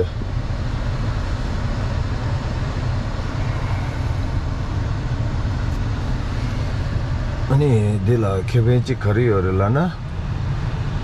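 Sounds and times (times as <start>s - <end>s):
air rushing from vents: 0.0s - 11.0s
car engine idling: 0.0s - 11.0s.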